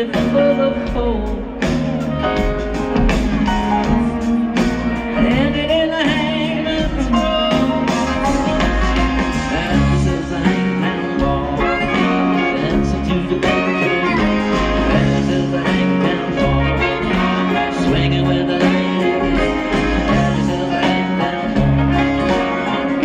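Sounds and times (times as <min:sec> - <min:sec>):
acoustic string band playing: 0:00.0 - 0:23.0
repeating bass line: 0:00.0 - 0:23.0.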